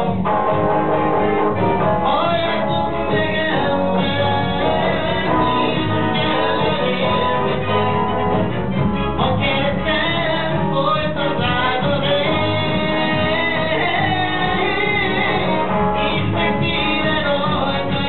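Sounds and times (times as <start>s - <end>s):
electric guitar: 0.0s - 18.0s
man singing into microphone: 1.9s - 8.1s, 9.1s - 18.0s.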